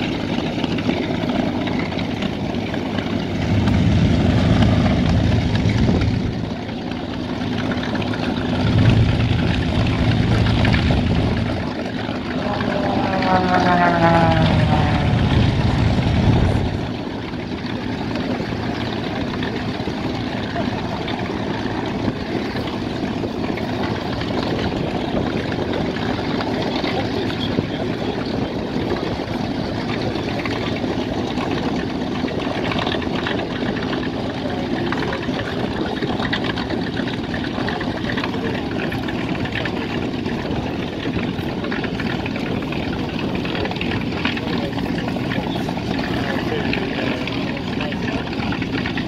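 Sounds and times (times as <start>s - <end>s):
aircraft piston engines droning: 0.0s - 49.0s.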